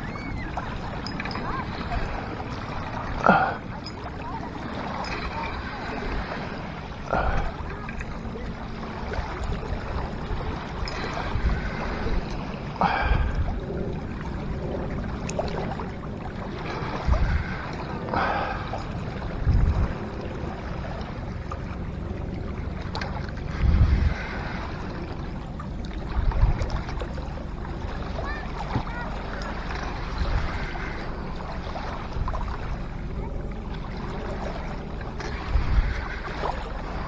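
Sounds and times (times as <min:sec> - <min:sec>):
small waves on rocky shore: 0:00.0 - 0:37.0
wind buffeting microphone: 0:00.0 - 0:37.0.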